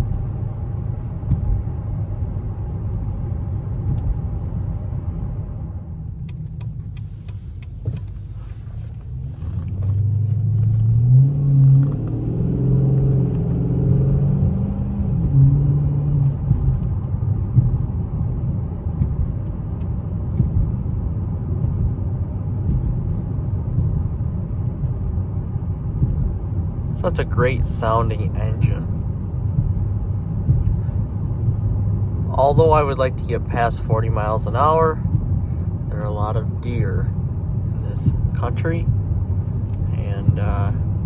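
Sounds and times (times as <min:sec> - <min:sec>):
car exhaust rumbling: 0:00.0 - 0:41.0
road noise: 0:00.0 - 0:41.0.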